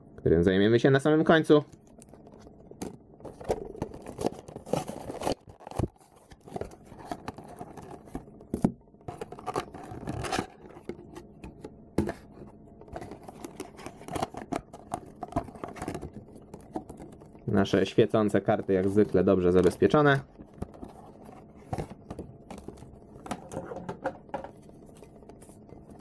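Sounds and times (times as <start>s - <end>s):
packaging rustling and tearing: 1.8s - 11.3s, 12.2s - 23.8s, 24.4s - 26.0s.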